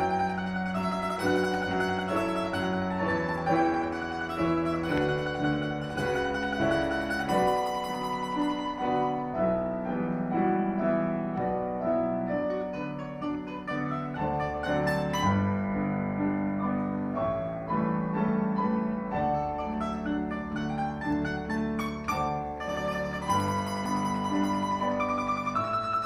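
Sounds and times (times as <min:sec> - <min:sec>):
domra playing folk melody: 0:00.0 - 0:26.0
piano chords: 0:00.0 - 0:26.0.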